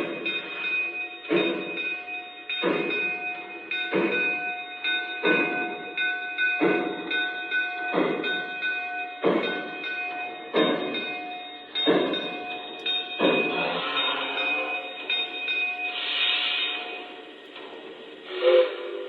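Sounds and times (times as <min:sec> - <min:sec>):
model steam locomotive chuff: 0:00.0 - 0:19.0.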